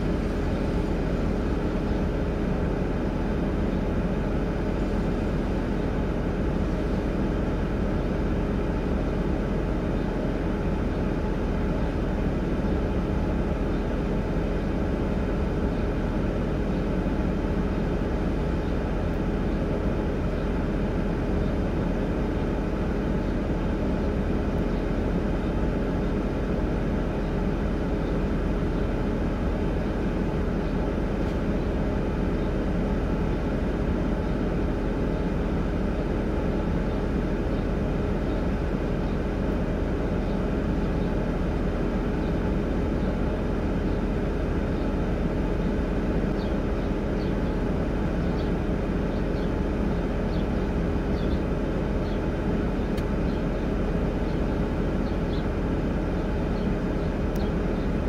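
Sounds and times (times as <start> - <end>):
vehicle idling drone: 0.0 - 58.0.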